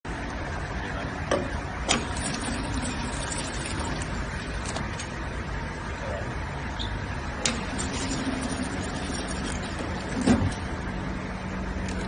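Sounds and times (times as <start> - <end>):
packing machine humming: 1.5 - 6.0, 6.6 - 12.0.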